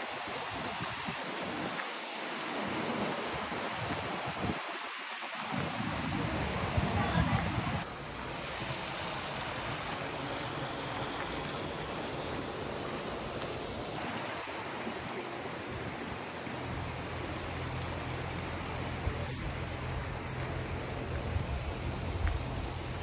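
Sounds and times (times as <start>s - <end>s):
stream flowing water: 0.0s - 23.0s.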